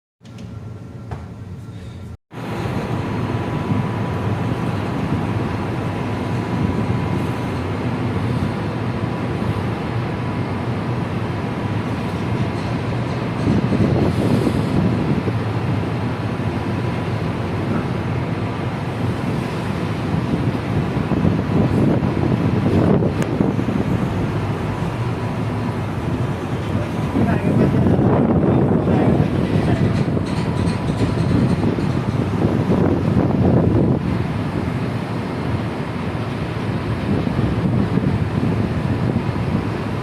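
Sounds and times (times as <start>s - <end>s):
wind and sea rushing: 1.8s - 40.0s.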